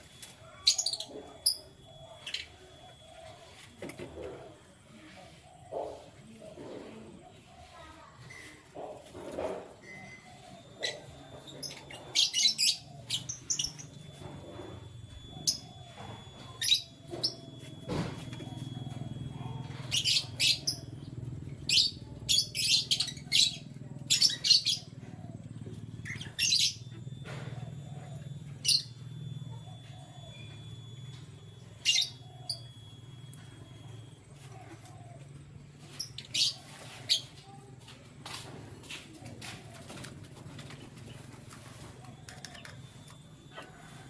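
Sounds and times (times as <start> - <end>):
canaries chirping: 0.0 - 44.0
steady low hum: 0.0 - 44.0.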